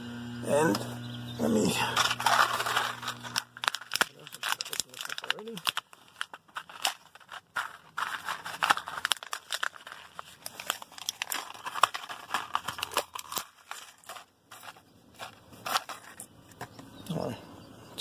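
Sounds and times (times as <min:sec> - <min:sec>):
packaging crinkling: 0:01.6 - 0:16.3.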